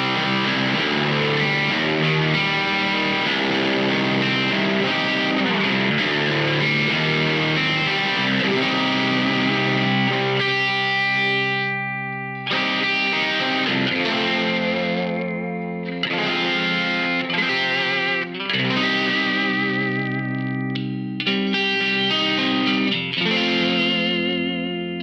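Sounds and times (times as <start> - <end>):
distorted electric guitar chords: 0.0 - 25.0.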